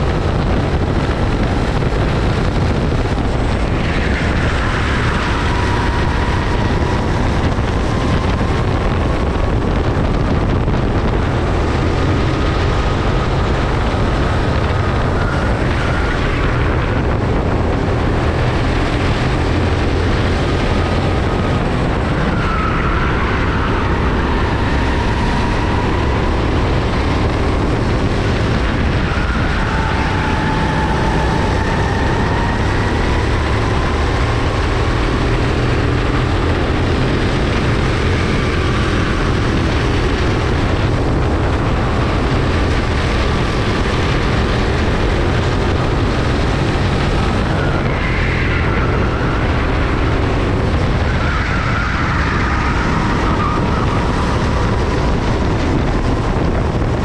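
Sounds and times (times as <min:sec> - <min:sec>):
steady low rumble: 0:00.0 - 0:48.0
racing kart engines: 0:00.0 - 0:57.0.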